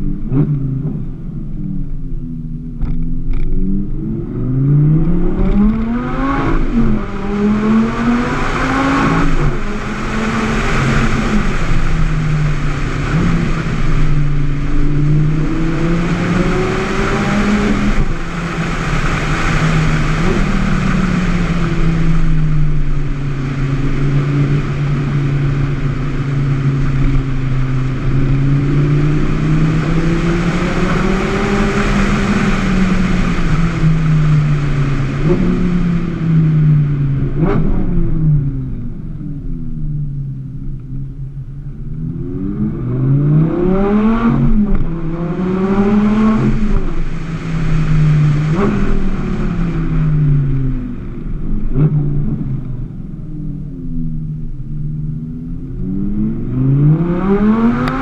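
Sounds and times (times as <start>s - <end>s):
car engine revving: 0.0s - 58.0s
wind and road noise: 0.0s - 58.0s.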